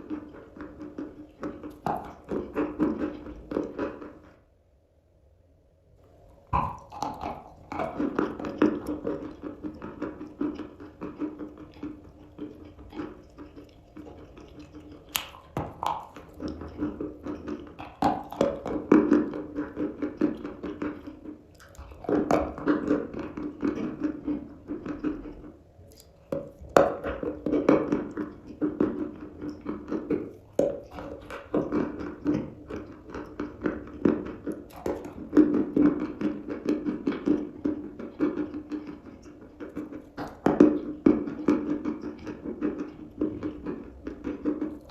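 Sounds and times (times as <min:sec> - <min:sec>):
chalk crunching while chewed: 0:00.0 - 0:04.3, 0:06.3 - 0:44.9.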